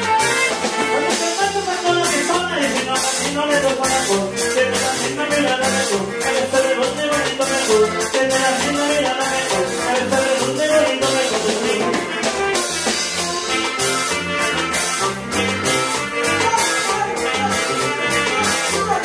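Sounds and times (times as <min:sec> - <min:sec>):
upbeat latin dance music: 0:00.0 - 0:19.0.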